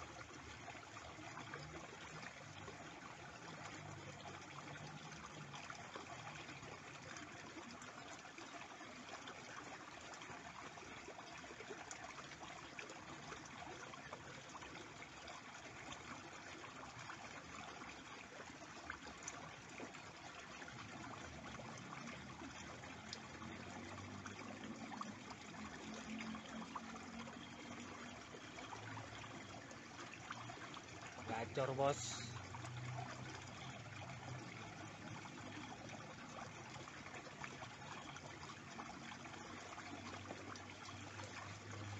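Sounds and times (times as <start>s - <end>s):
stream trickling: 0.0s - 41.9s.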